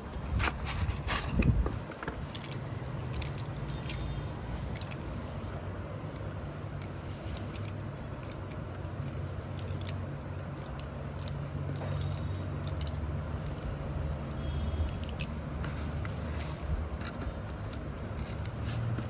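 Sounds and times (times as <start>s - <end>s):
slate pencils clicking and crunching: 0.0s - 19.0s.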